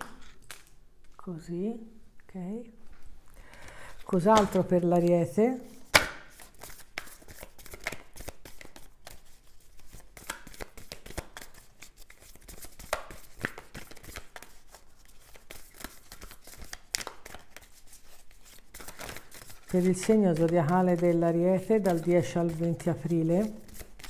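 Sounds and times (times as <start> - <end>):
playing cards shuffling: 0.0 - 1.2, 3.5 - 24.0.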